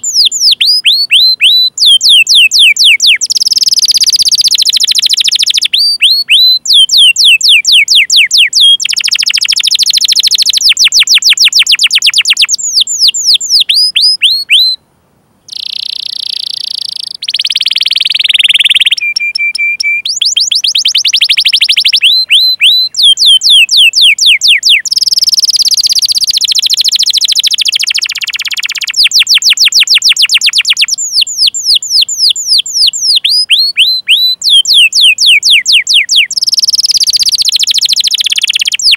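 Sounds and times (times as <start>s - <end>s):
canary singing: 0.0s - 14.8s, 15.4s - 38.9s.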